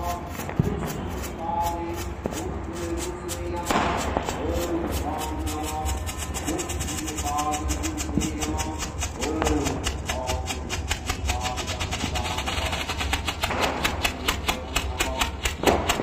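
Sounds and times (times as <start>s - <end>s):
firework fountain crackling: 0.0s - 16.0s
loud firework crack: 0.0s - 16.0s.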